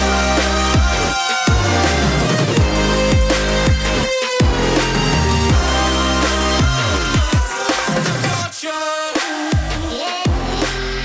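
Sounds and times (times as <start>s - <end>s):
electronic music with sliding bass: 0.0s - 8.6s, 9.5s - 11.0s.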